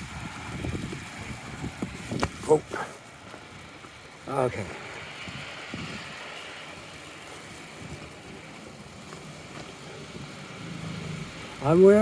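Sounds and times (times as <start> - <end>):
low engine hum: 0.0 - 12.0
tyres on wet street: 0.0 - 12.0.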